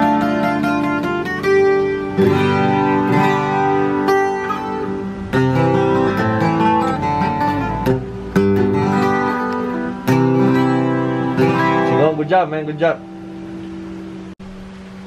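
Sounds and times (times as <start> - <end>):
twelve-string acoustic guitar strumming: 0.0 - 14.4.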